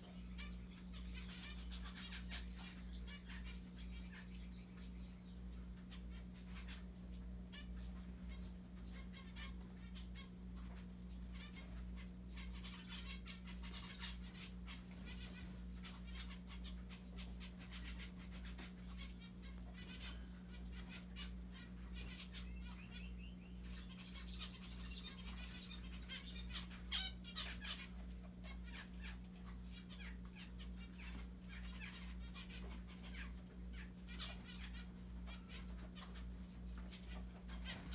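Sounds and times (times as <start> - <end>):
finches chirping: 0.0 - 37.9
steady low hum: 0.0 - 37.9.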